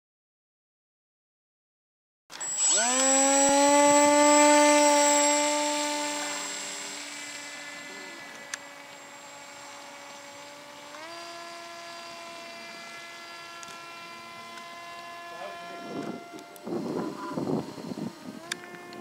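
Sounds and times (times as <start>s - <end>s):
electric motor and propeller whine: 2.3s - 19.0s.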